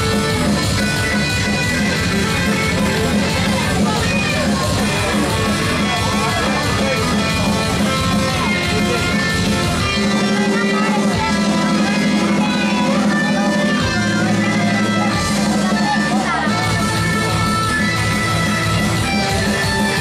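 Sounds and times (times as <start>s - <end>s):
electric guitar rock melody: 0.0s - 20.0s.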